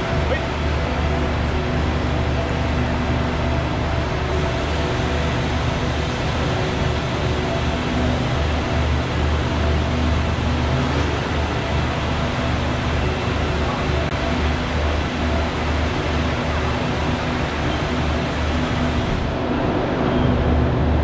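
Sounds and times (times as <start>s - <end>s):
train machinery droning: 0.0s - 20.8s.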